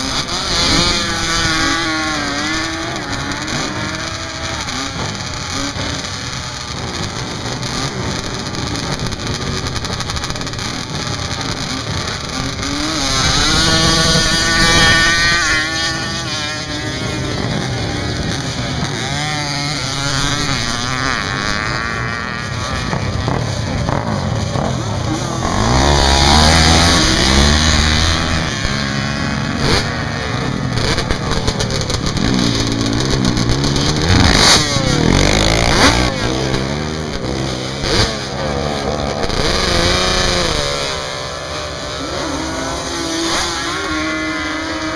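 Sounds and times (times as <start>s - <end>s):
quad engines revving: 0.0s - 44.9s.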